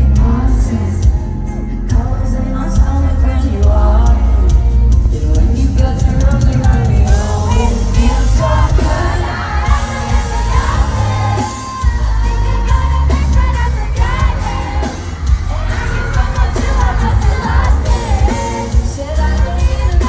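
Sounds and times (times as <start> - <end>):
crowd singing and cheering: 0.0 - 20.0
live pop band with vocals: 0.0 - 20.0.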